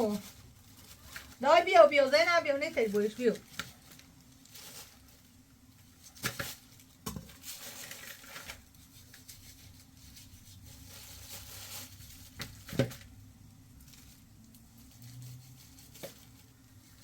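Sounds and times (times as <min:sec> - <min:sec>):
rustling scraping handling noise: 0:00.0 - 0:17.0.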